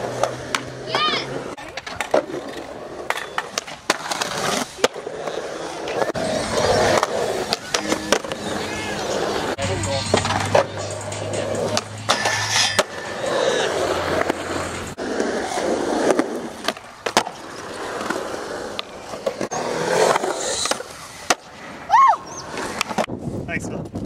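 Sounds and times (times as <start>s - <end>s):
skateboard clacking on ground: 0.0s - 21.6s
skateboard wheels rolling on concrete: 0.0s - 24.0s.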